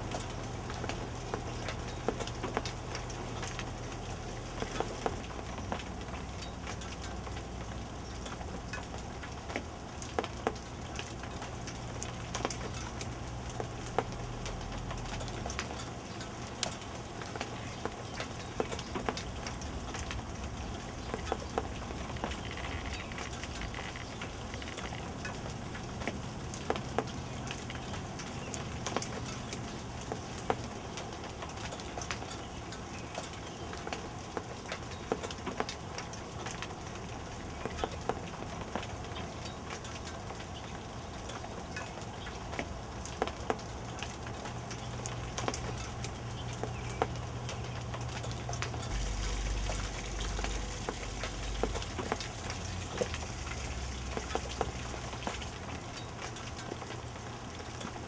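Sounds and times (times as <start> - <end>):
hailstones ticking on hard surfaces: 0.0 - 58.0
rain hissing: 0.0 - 58.0.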